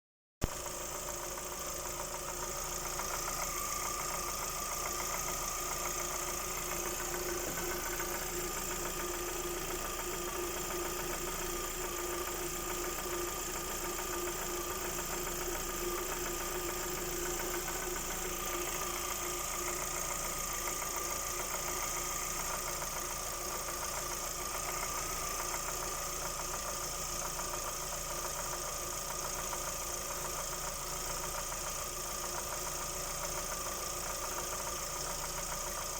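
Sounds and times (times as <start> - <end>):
car engine running: 0.4 - 35.9
rapid regular engine knock: 0.4 - 35.9.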